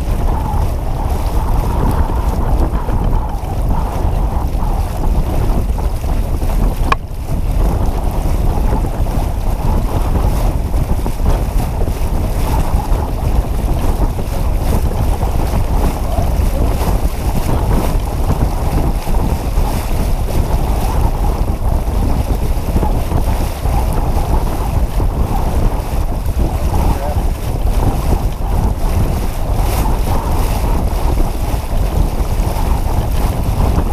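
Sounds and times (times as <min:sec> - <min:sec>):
water washing along hull: 0:00.0 - 0:33.9
wind buffeting microphone: 0:00.0 - 0:33.9.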